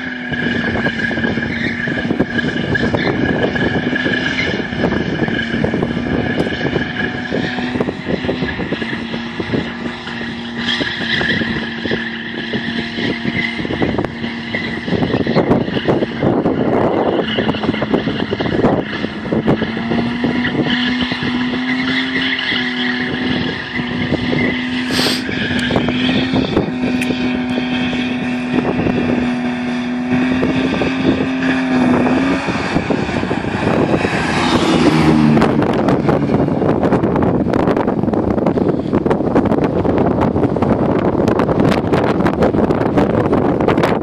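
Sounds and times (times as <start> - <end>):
car engine at high revs: 0.0 - 44.0.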